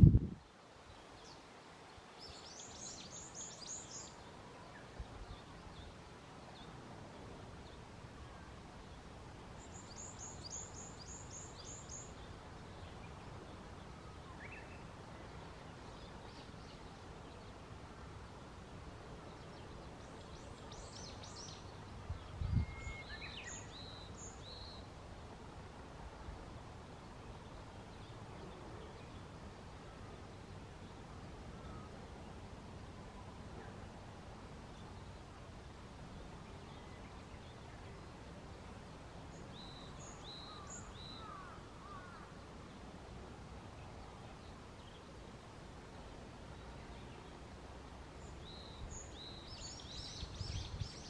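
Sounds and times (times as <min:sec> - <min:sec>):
faint outdoor hiss: 0:00.0 - 0:51.0
songbirds chirping: 0:00.2 - 0:51.0.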